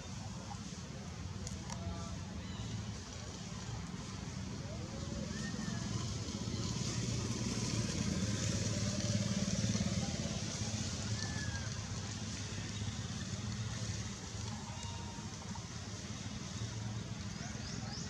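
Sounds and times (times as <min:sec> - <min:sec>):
engine running: 0:02.9 - 0:18.0.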